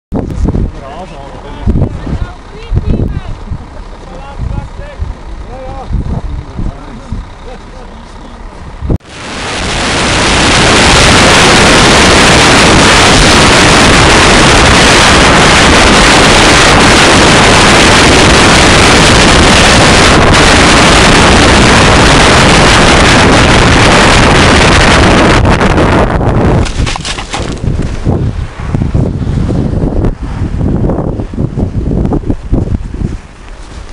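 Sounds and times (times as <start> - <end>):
wind rushing over microphone: 0.1 - 7.4, 8.6 - 33.9.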